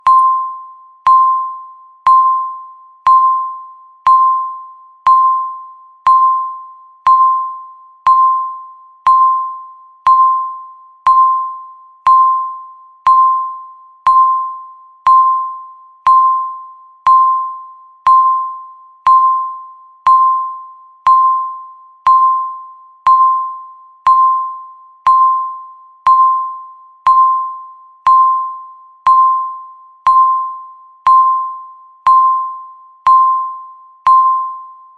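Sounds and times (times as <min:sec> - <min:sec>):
timer beeping: 0:00.0 - 0:34.9.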